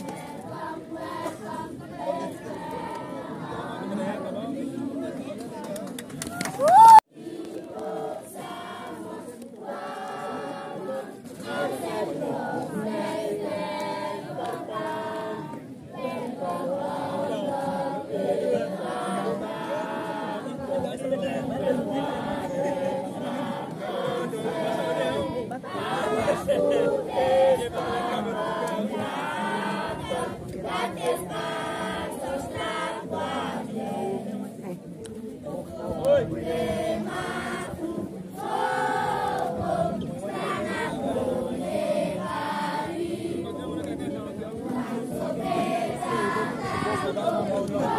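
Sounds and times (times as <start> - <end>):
group singing choir-style: 0.0 - 5.4, 7.1 - 47.9.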